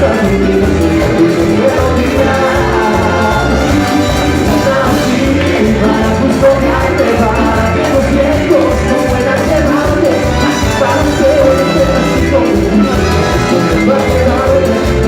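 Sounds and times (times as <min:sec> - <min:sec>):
latin dance band music: 0:00.0 - 0:15.0.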